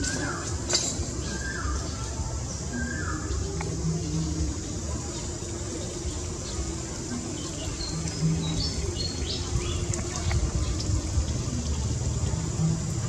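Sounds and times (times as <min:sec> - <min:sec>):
insect hiss: 0:00.0 - 0:13.0.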